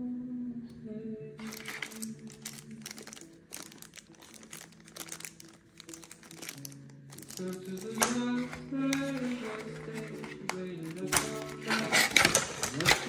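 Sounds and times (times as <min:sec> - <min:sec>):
background music: 0:00.0 - 0:13.0
plastic packaging crinkling: 0:01.4 - 0:13.0.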